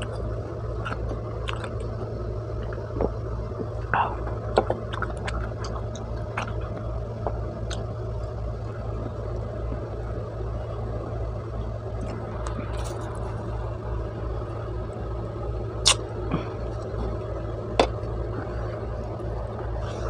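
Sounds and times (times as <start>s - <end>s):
low hum: 0.0s - 20.0s
pulsing rumble: 0.0s - 20.0s.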